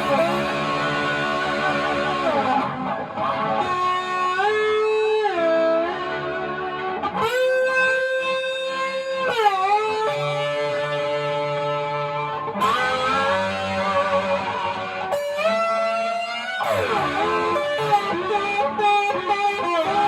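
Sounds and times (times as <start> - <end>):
slide electric guitar: 0.0 - 20.0.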